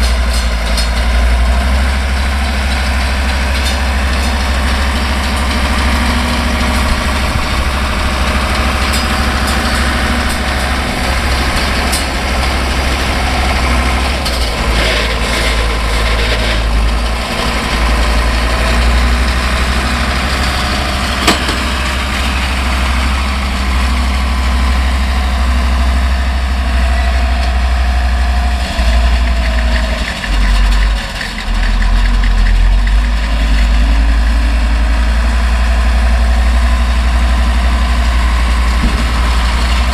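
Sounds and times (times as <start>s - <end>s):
round baler working: 0.0s - 39.9s
tractor diesel engine under load: 0.0s - 39.9s.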